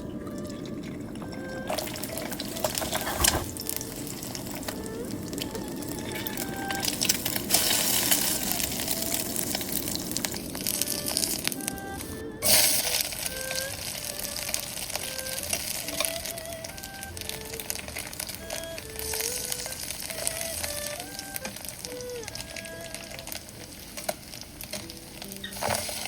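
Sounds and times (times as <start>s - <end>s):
water pouring: 0.0s - 26.0s.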